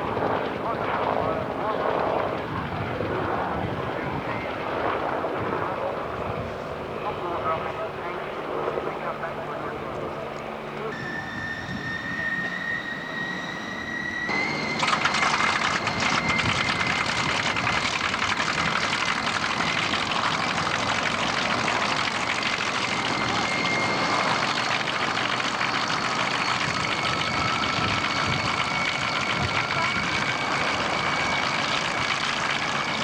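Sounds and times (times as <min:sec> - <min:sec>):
aircraft engine running: 0:00.0 - 0:33.0.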